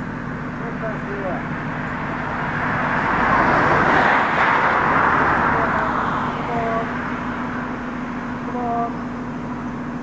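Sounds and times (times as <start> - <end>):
vehicle passing by: 0.6 - 9.0.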